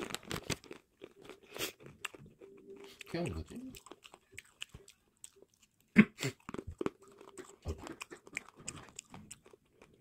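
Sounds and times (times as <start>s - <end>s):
crunchy chips being chewed: 0.0s - 10.0s.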